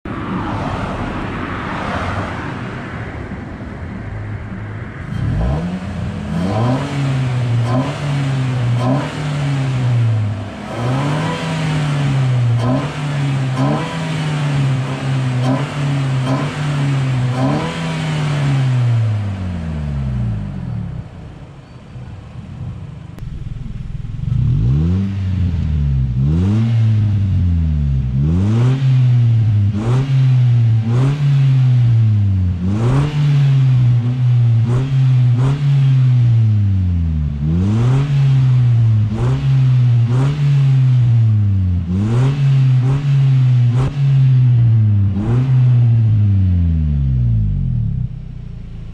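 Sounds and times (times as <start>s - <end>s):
van engine revving: 5.0s - 21.5s, 23.2s - 48.9s.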